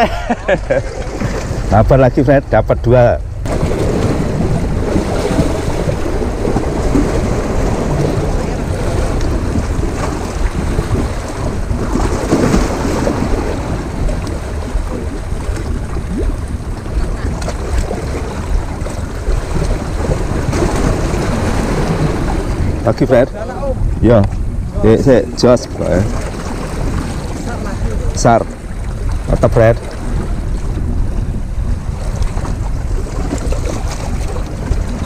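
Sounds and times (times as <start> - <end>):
sea waves on rocks: 0.0 - 35.0
wind buffeting microphone: 0.0 - 35.0.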